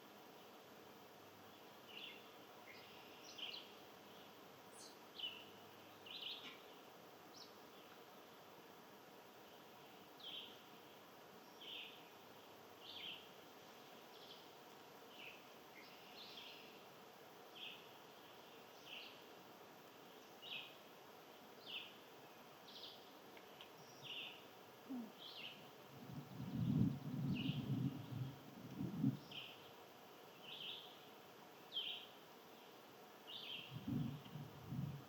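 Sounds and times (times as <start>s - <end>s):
faint outdoor hiss: 0.0s - 35.0s.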